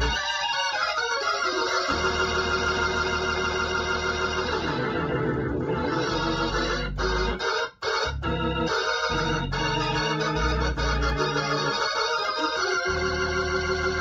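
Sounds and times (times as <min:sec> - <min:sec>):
organ bass line: 0:00.0 - 0:14.0
organ chords through rotating speaker: 0:00.0 - 0:14.0.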